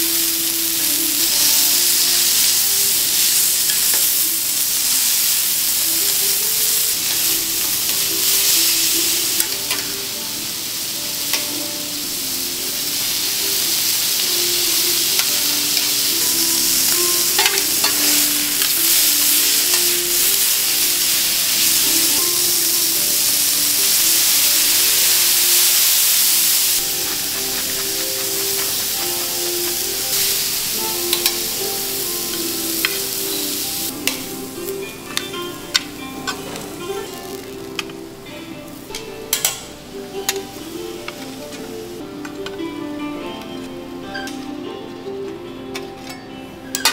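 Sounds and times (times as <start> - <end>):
metal utensils clinking: 0.0 - 10.6, 11.2 - 38.0, 46.0 - 46.9
meat sizzling on griddle: 0.0 - 42.0
quiet background music: 0.0 - 46.9.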